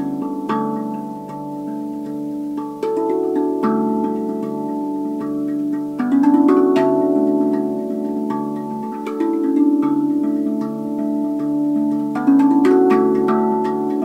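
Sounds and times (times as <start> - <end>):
steel tongue drum melody: 0.0 - 14.0.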